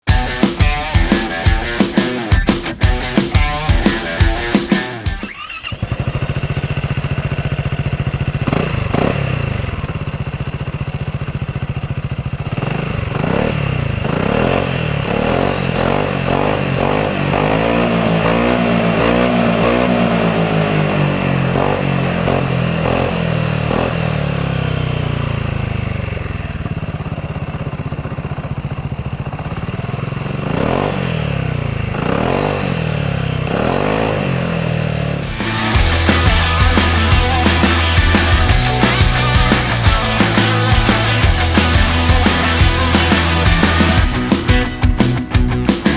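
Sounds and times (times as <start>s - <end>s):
scooter engine revving: 0.0s - 45.9s.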